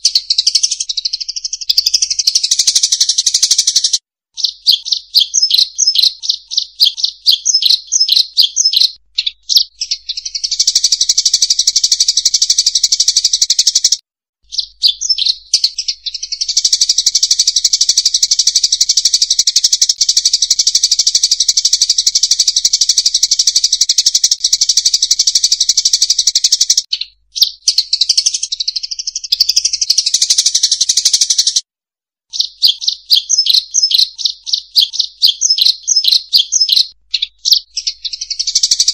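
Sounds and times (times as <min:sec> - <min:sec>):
small birds twittering: 0:00.0 - 0:31.6, 0:32.3 - 0:38.9.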